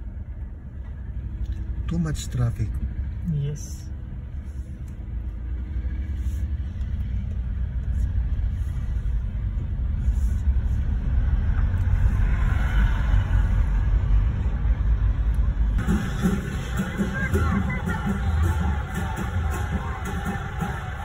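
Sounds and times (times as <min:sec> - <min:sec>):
car driving inside cabin: 0:00.0 - 0:21.0.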